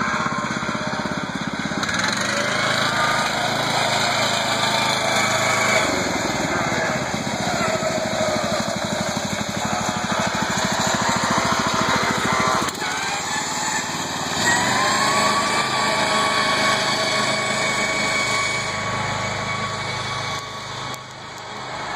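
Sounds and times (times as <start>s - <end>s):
lawn mower engine running: 0.0s - 21.9s.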